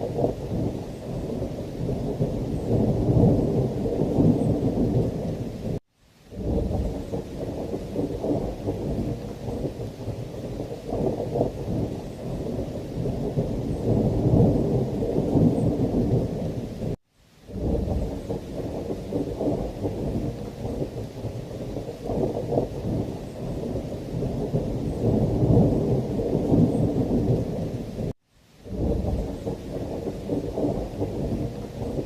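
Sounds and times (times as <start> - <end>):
rumble of thunder: 0.0 - 32.0
steady rain: 0.0 - 32.0.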